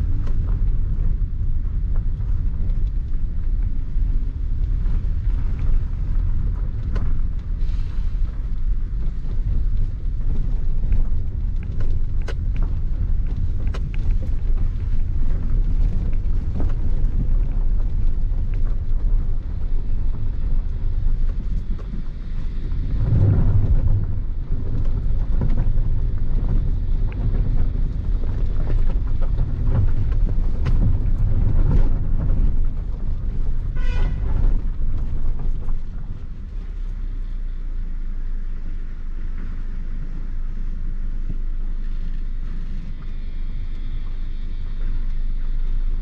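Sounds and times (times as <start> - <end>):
car engine and tyre rumble: 0.0 - 46.0.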